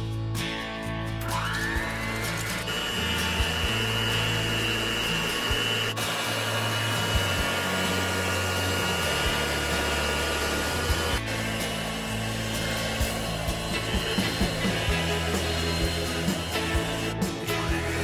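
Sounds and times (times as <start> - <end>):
electric hand mixer whirring: 1.5 - 18.0.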